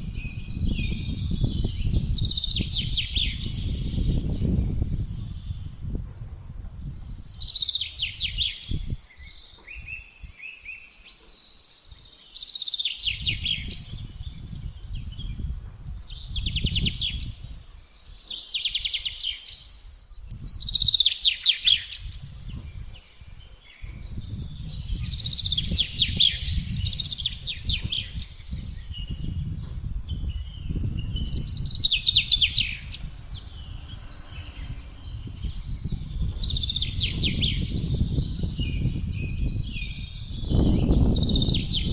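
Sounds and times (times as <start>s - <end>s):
wind rumbling: 0.0s - 10.4s, 12.9s - 41.9s
songbird trilling: 0.1s - 5.8s, 7.1s - 29.5s, 30.1s - 41.9s.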